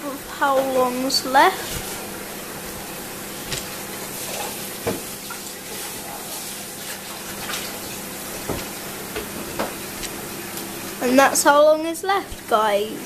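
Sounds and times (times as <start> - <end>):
microwave oven fan whirring: 0.0 - 13.0.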